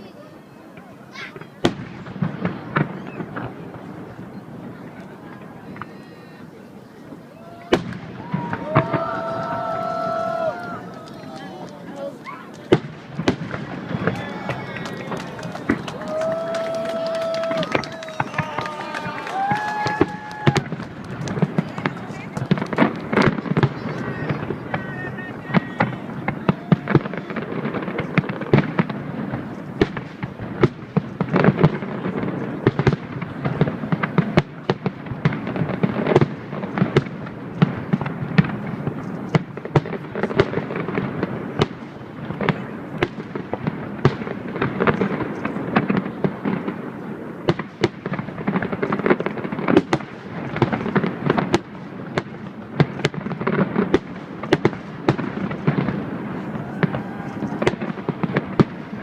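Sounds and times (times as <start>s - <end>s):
fireworks bangs and crackle: 0.0s - 59.0s.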